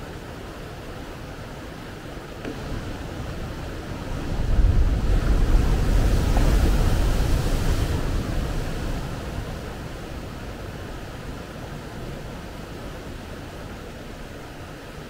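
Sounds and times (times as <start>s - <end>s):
surf washing up beach: 0.0s - 15.0s
ocean waves breaking on rocks: 0.5s - 14.5s.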